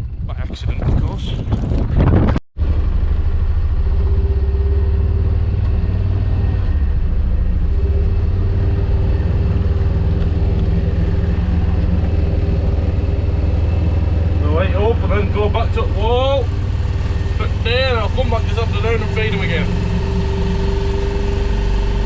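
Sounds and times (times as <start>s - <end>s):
vehicle engine droning: 2.6s - 22.0s.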